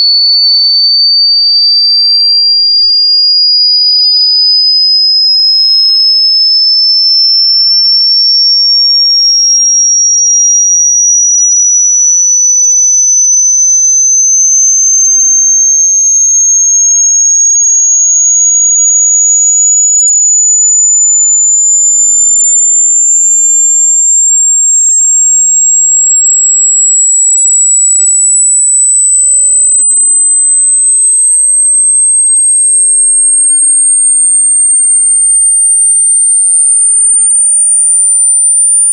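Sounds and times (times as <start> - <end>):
rising electronic sine tone: 0.0 - 38.9.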